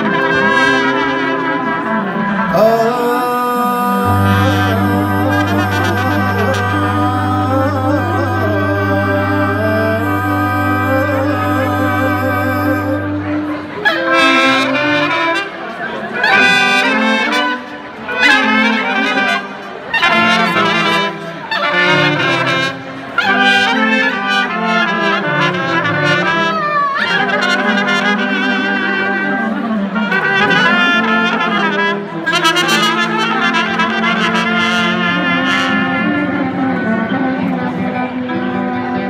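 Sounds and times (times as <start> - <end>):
brass band playing: 0.0 - 39.0.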